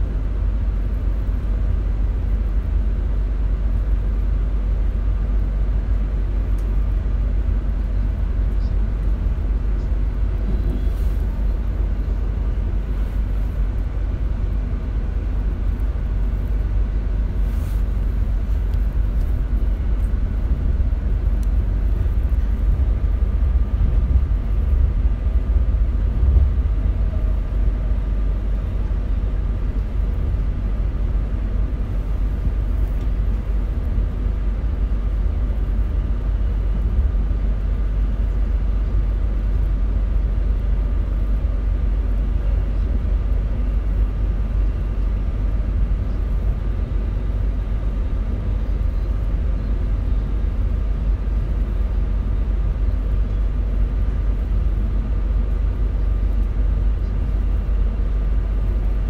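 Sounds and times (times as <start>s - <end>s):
faint whine: 0.0s - 59.0s
train rumbling on track: 0.0s - 59.0s.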